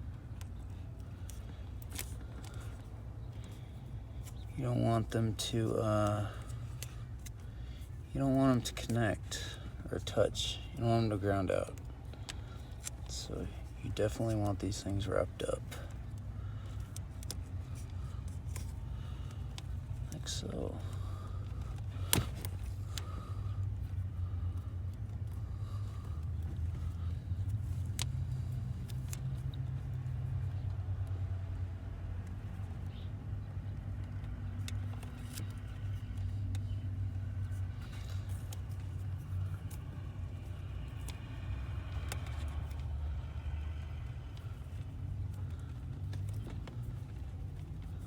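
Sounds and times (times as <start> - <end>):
clicks and rustles of tape: 0.0 - 48.0.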